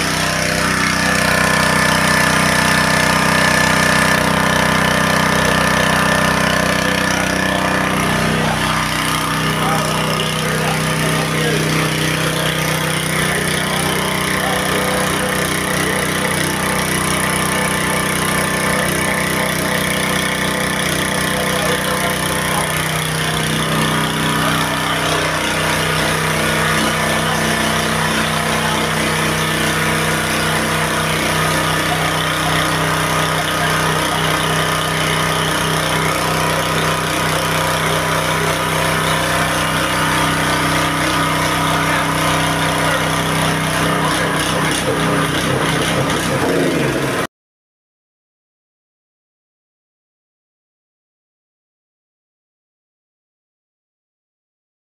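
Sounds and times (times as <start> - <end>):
sprayer pump motor running: 0.0 - 47.3.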